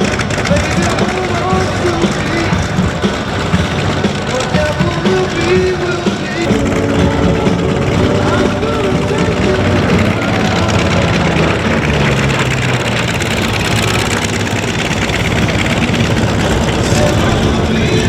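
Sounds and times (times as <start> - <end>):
aircraft piston engine running: 0.0 - 18.0.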